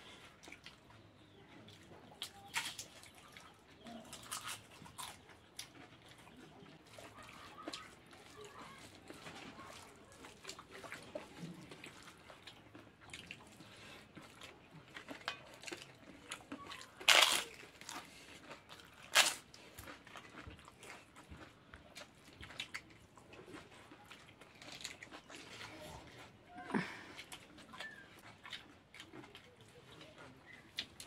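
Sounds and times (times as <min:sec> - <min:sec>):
soft chewing and lip smacks: 0:00.0 - 0:31.0
loud crunches of crisp food: 0:02.2 - 0:31.0.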